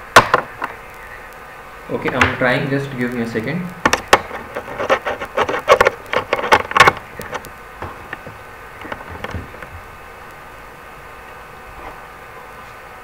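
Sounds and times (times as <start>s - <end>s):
electrical buzz: 0.0s - 13.0s.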